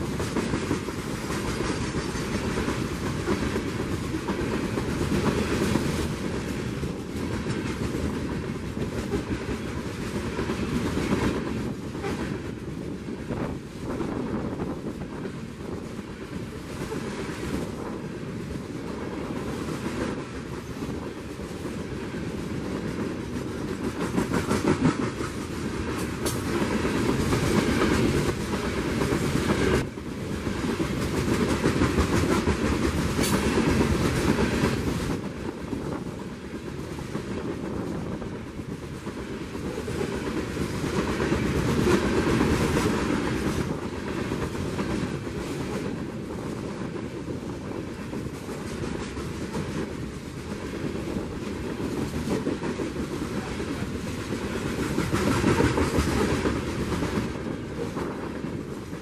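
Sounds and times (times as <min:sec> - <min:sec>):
freight train wheels clacking on rails: 0:00.0 - 0:59.0.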